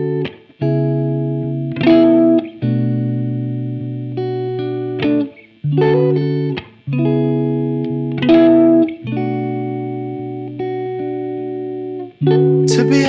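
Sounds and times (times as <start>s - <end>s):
guitar chords music: 0.0s - 13.0s.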